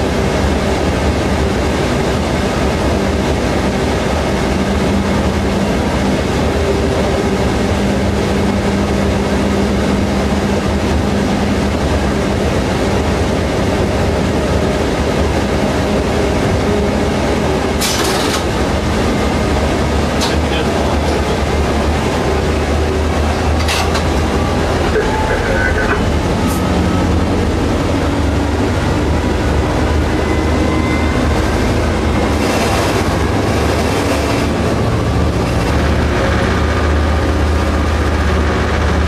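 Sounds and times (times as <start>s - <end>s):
diesel engine drone: 0.0s - 39.0s
train running noise: 0.0s - 39.0s.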